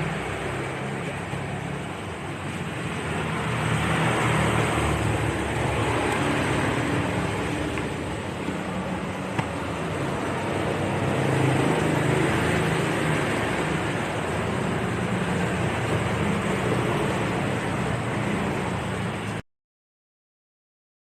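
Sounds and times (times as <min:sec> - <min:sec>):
electric kettle heating water: 0:00.0 - 0:19.4.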